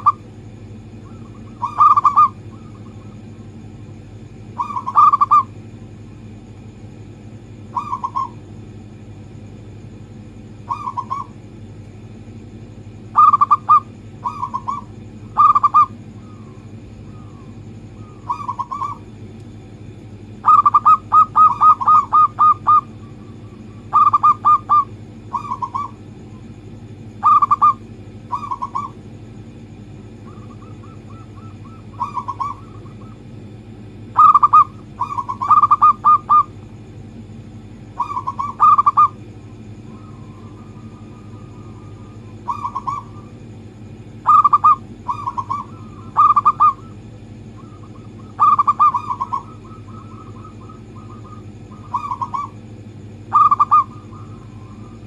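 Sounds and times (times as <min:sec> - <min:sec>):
dove cooing: 0:00.0 - 0:00.2, 0:00.9 - 0:03.7, 0:04.5 - 0:05.6, 0:07.6 - 0:08.4, 0:10.6 - 0:11.5, 0:13.1 - 0:26.5, 0:27.2 - 0:29.1, 0:30.1 - 0:36.6, 0:37.9 - 0:55.0
faint low hum: 0:00.0 - 0:55.0.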